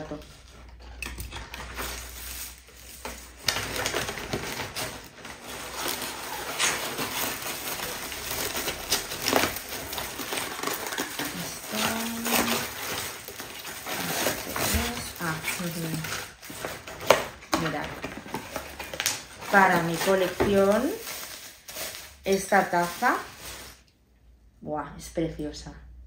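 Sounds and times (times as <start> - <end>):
paper wrap crinkling and rustling: 0.0 - 23.9.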